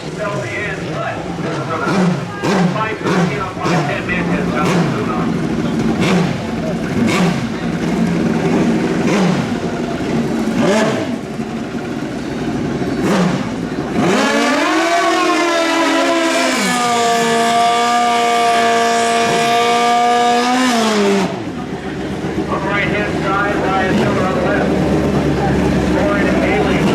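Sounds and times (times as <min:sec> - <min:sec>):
motorcycle engines revving: 0:00.0 - 0:26.9.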